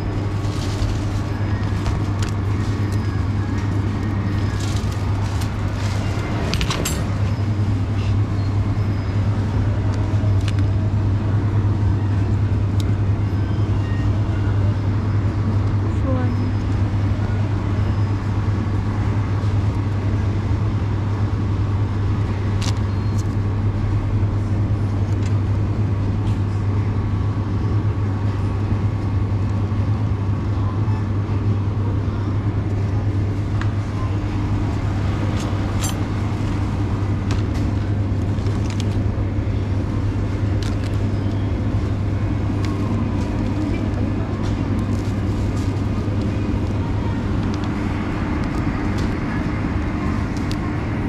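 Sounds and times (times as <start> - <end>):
refrigeration machinery hum: 0.0 - 51.0.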